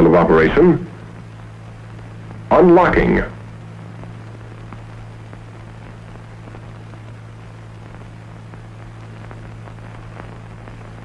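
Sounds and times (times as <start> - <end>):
faint crackles: 0.0 - 11.0
old film soundtrack hum and hiss: 0.0 - 11.0.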